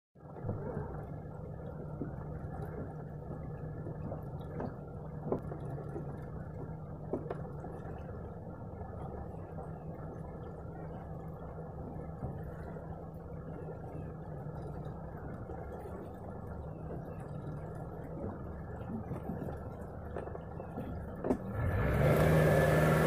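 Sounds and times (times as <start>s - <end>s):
outboard motor running: 0.2s - 23.0s
water slapping against hull: 0.2s - 23.0s.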